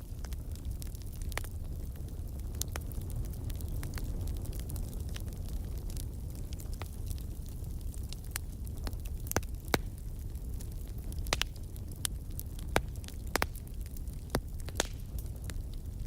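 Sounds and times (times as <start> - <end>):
campfire flames rumbling: 0.0 - 16.0
fire crackles and pops: 0.0 - 16.0.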